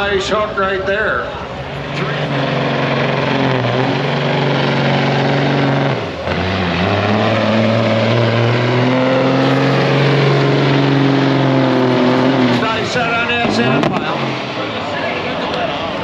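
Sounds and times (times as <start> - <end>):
diesel truck engine under load: 1.2 - 16.0.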